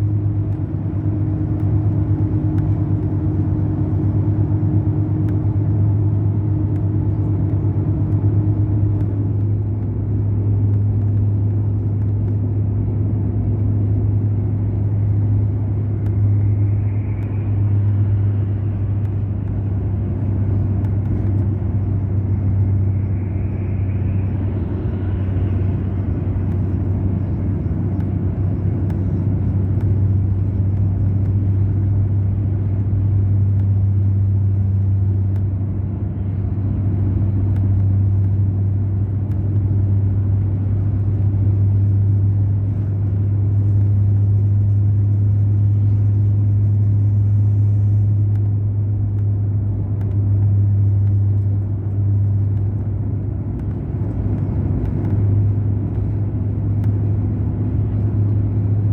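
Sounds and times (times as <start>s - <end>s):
coach diesel engine droning: 0.0s - 58.9s.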